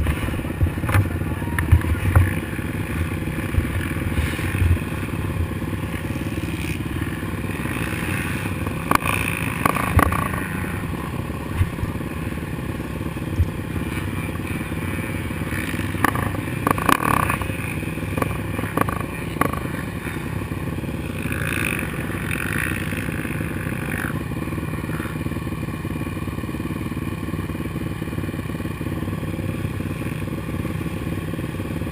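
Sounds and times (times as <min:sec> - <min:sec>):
quad engine running hard: 0:00.0 - 0:31.9.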